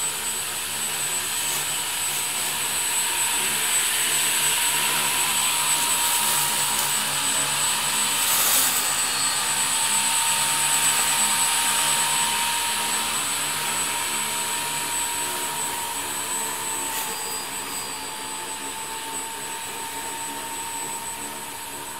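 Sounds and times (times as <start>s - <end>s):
lawn mower whine and hiss: 0.0s - 21.9s.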